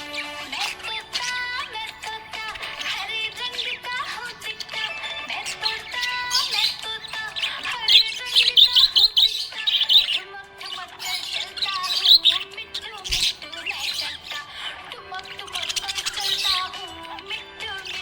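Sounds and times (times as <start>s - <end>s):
background music with held notes: 0.0s - 18.0s
budgerigar chirping: 0.0s - 18.0s.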